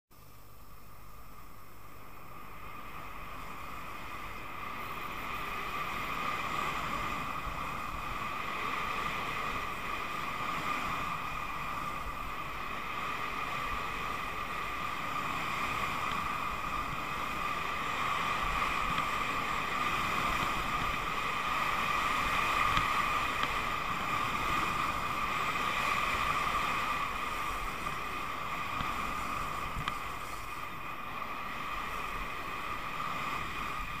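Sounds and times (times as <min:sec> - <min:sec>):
skis scraping over snow: 0:03.2 - 0:34.0.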